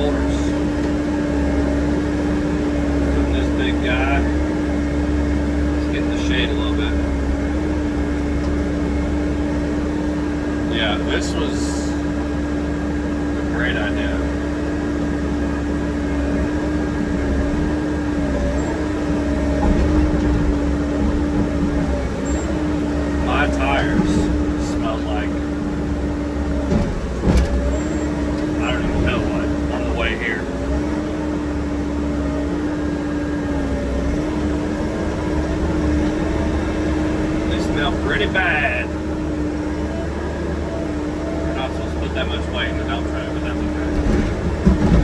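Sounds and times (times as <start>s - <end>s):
truck engine droning: 0.0s - 45.0s.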